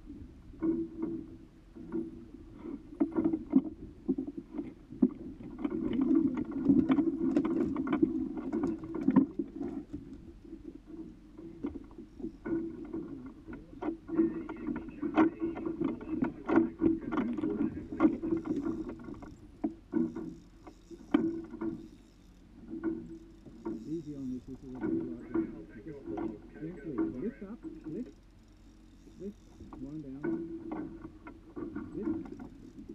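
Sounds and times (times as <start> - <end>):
water slapping against boat hull: 2.8 - 21.9, 22.6 - 28.0, 29.2 - 32.9.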